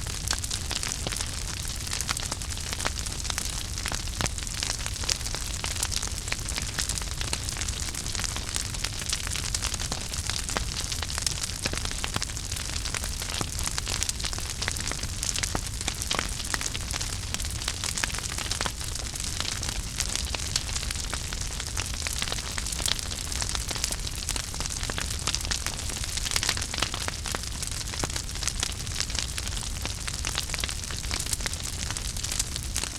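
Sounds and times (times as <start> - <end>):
fire crackling and popping: 0.0 - 32.9
wood fire hiss and rumble: 0.0 - 32.9.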